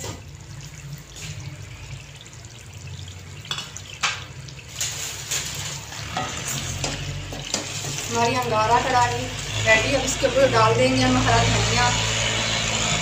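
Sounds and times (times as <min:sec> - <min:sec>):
gravy bubbling: 0:00.0 - 0:11.6.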